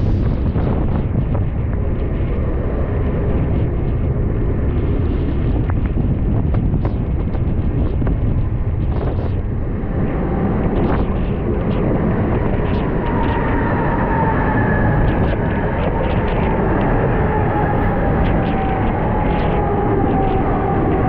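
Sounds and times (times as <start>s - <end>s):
train rumbling along track: 0.0s - 21.0s
wind buffeting microphone: 0.0s - 21.0s.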